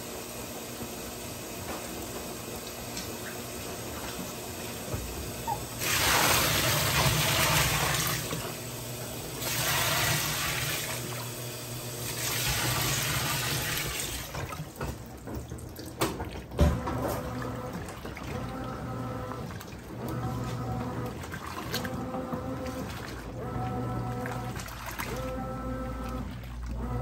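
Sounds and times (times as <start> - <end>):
washing machine low hum: 0.0 - 27.0.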